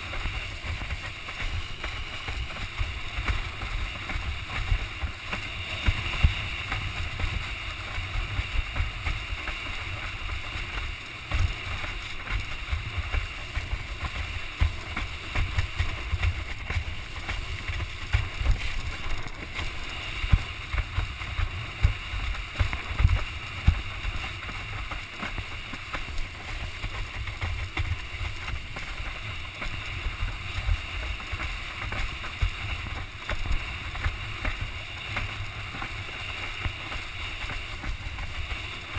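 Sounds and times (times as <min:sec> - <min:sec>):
board hissing through choppy water: 0:00.0 - 0:38.9.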